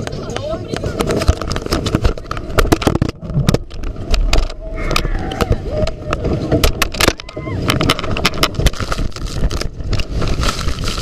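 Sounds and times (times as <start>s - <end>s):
boat ride rattling and clattering: 0.0s - 11.0s.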